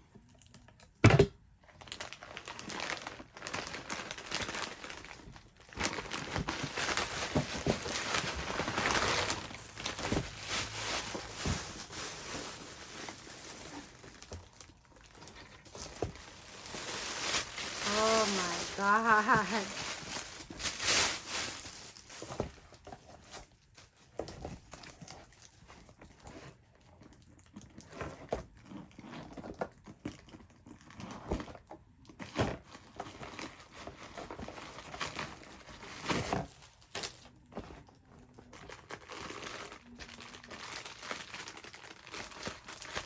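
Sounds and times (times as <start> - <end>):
packaging crinkling and rustling: 0.2 - 43.0.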